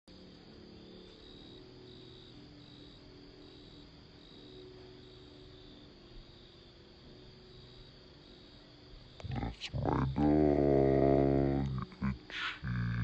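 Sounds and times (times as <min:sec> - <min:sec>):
background hiss: 0:00.1 - 0:13.0
crickets chirping: 0:00.1 - 0:13.0.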